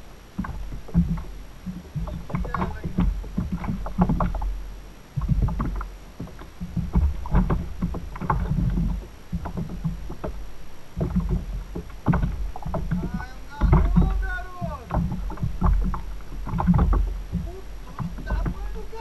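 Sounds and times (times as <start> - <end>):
water slapping against hull: 0.0 - 19.0
knocks and clicks: 0.3 - 4.6, 5.2 - 19.0.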